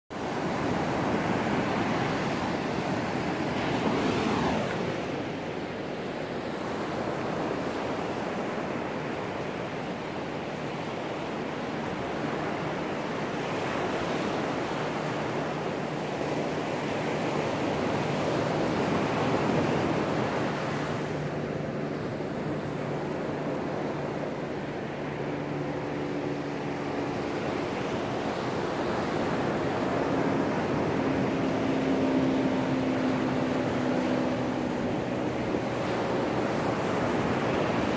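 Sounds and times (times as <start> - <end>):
ocean surf on sandy beach: 0.1 - 37.9.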